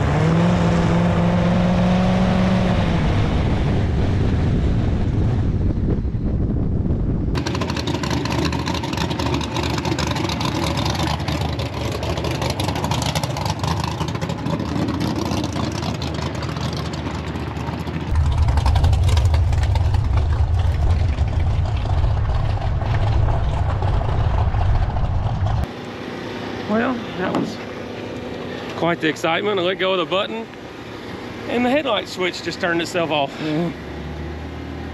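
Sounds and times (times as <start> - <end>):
deep engine drone: 0.0 - 34.9
wind and road noise: 0.0 - 34.9.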